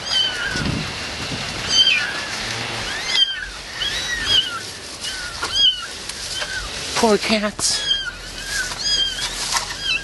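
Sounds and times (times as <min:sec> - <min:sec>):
cats meowing: 0:00.0 - 0:00.7, 0:01.6 - 0:06.8, 0:07.5 - 0:10.0.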